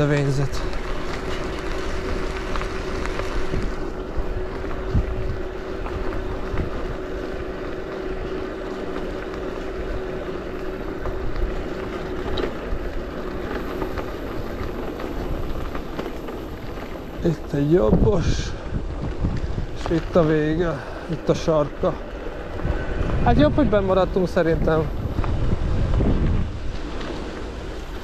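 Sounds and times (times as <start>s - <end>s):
tyres crunching over gravel: 0.0s - 28.0s
wind buffeting microphone: 0.0s - 28.0s.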